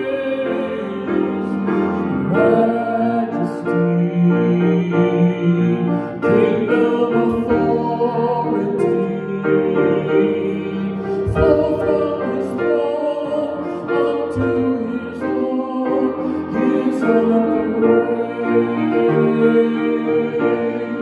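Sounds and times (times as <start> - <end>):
grand piano: 0.0 - 21.0
man singing: 0.0 - 21.0.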